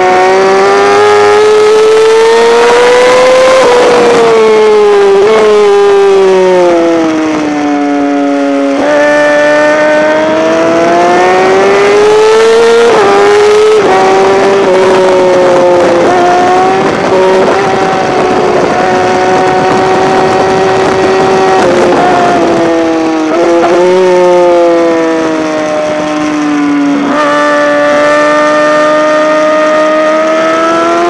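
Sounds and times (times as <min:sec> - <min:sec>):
sport bike engine revving: 0:00.0 - 0:31.0
wind noise: 0:00.0 - 0:31.0.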